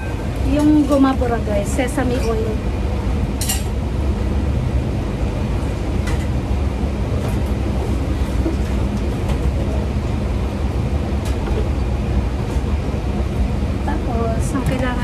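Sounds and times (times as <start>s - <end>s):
kitchen equipment rumble and hum: 0.0s - 15.0s.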